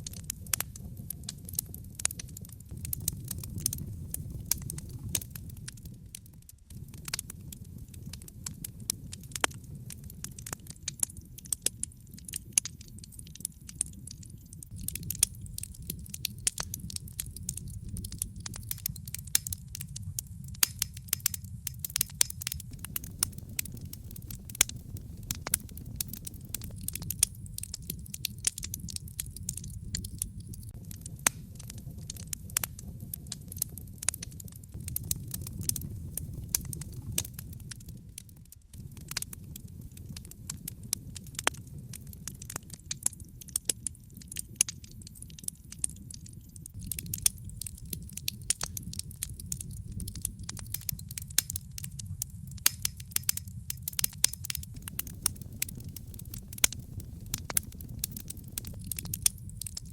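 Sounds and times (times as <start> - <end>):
low rumble of burning fire: 0.0 - 59.9
wood fire crackling and popping: 0.0 - 59.9.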